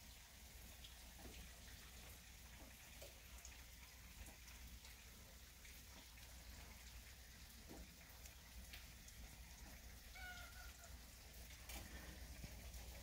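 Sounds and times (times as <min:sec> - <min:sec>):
faint rain: 0:00.0 - 0:13.0
soft drip ticks: 0:00.0 - 0:13.0.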